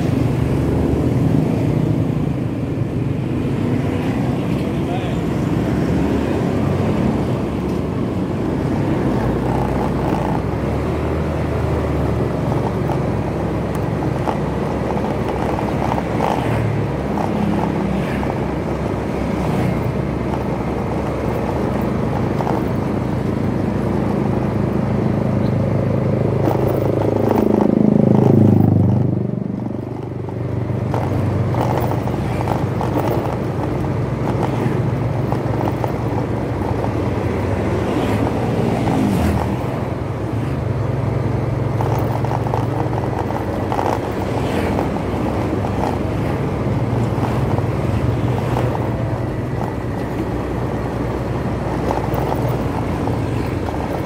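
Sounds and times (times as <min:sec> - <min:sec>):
vehicle passing close by: 0:00.0 - 0:29.7, 0:30.5 - 0:54.0
motorcycle engine and road noise: 0:00.0 - 0:54.0.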